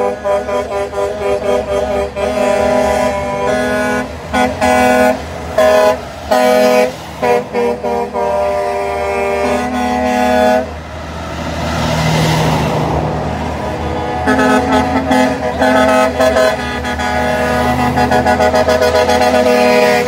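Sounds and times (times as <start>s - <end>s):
truck air horn blasts: 0.0s - 10.8s, 13.8s - 20.0s
truck passing by: 0.0s - 20.0s.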